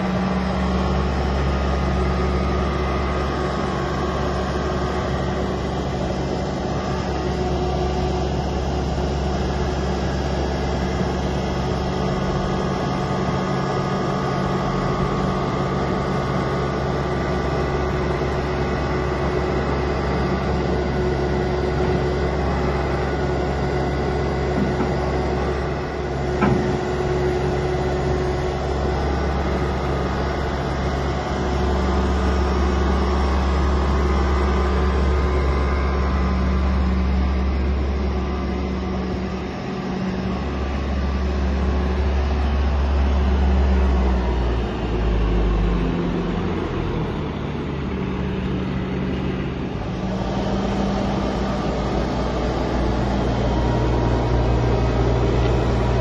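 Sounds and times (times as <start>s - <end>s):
diesel loader engine under load: 0.0s - 56.0s.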